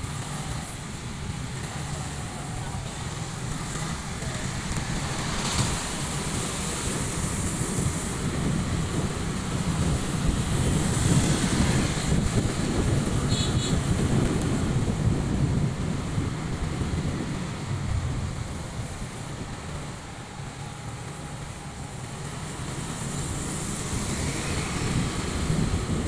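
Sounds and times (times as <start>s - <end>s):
traffic rumble: 0.0s - 26.0s
wind rushing over microphone: 0.0s - 26.0s.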